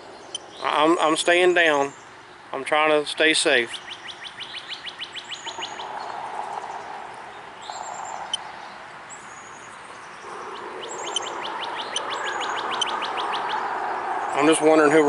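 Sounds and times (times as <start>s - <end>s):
songbirds chirping: 0.0s - 15.0s
steady background hiss: 0.0s - 15.0s.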